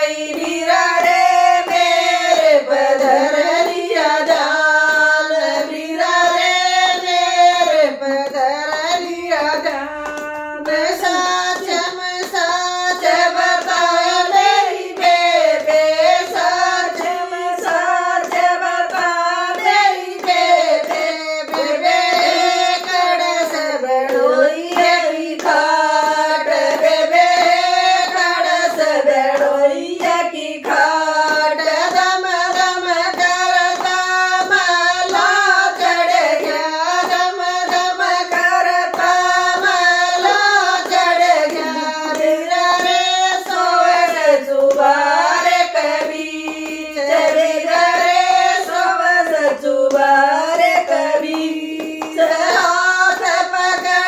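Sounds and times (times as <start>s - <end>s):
hand-clapping: 0.0s - 54.0s
women singing folk song: 0.0s - 54.0s.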